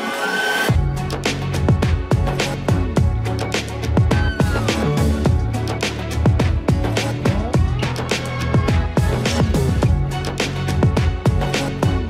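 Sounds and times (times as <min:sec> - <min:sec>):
electronic music: 0:00.0 - 0:12.0
fast kick-drum beat: 0:00.7 - 0:10.2, 0:10.8 - 0:12.0
held bass line: 0:00.7 - 0:12.0.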